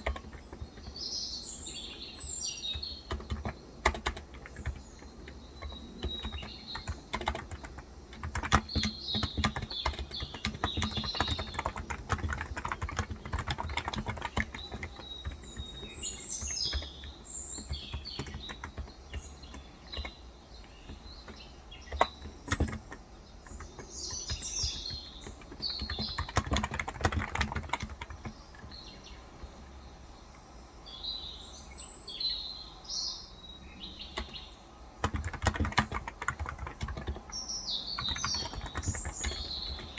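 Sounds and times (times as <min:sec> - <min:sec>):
keyboard typing: 0:00.0 - 0:28.9, 0:34.1 - 0:34.4, 0:35.0 - 0:39.9
birds chirping: 0:00.0 - 0:39.9.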